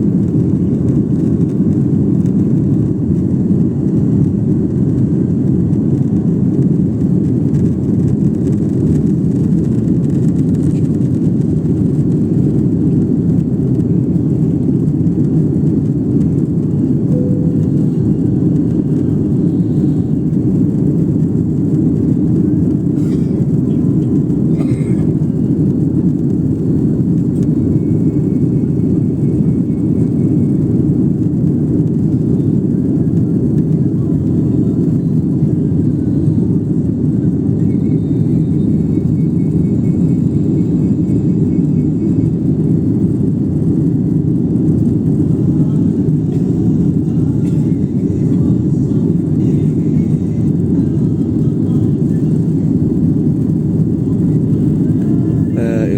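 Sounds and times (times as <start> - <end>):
airliner cabin engine rush: 0.0 - 55.9.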